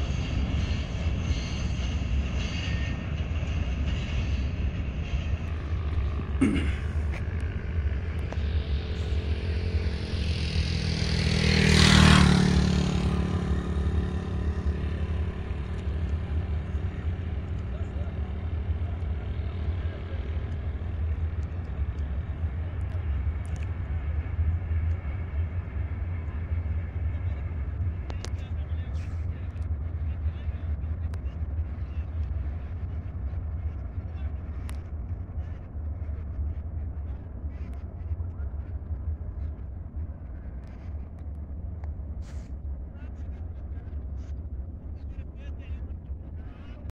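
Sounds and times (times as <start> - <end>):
freight train rumble: 0.0 - 46.9.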